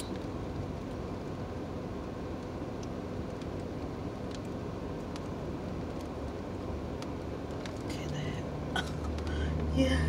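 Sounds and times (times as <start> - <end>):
car interior rumble: 0.0 - 10.0.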